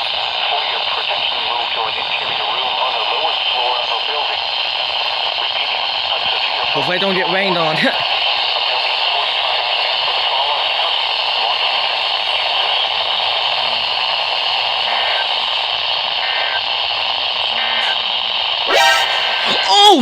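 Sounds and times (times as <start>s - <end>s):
radio static hiss: 0.0s - 19.4s.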